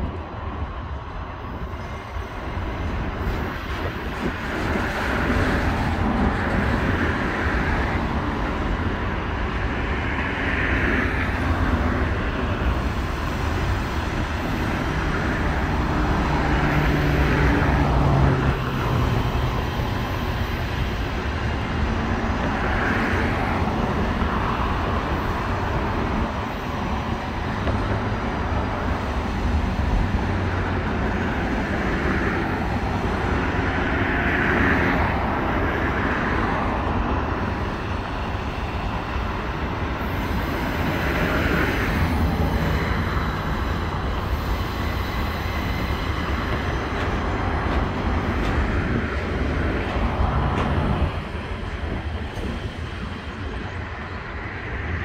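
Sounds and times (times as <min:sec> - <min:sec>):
freight train cars rumbling past: 0:00.0 - 0:55.0.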